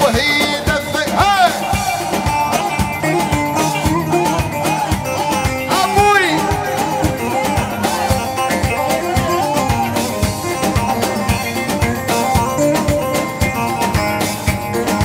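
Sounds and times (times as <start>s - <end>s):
melody with sliding bending notes: 0.0s - 15.0s
steady drum beat: 0.0s - 15.0s.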